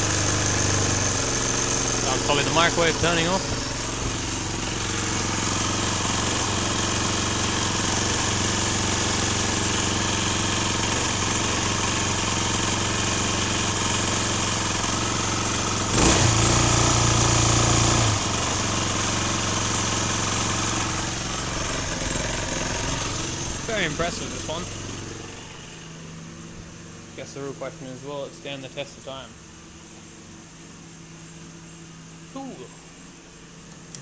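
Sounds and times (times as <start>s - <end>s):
generator engine running: 0.0s - 34.0s.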